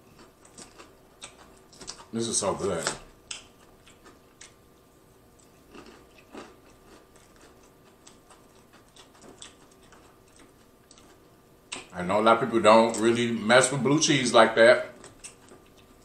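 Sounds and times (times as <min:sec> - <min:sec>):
faint chewing: 0:00.0 - 0:12.0, 0:14.8 - 0:16.0.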